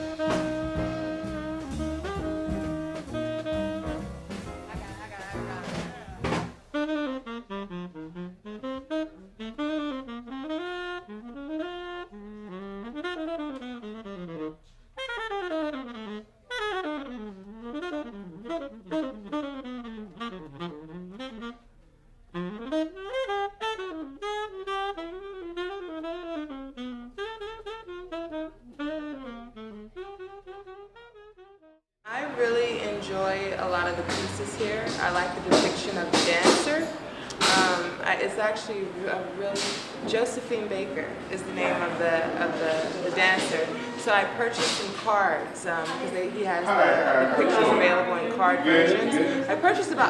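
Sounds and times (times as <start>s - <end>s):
saxophone jazz solo: 0.0s - 50.0s.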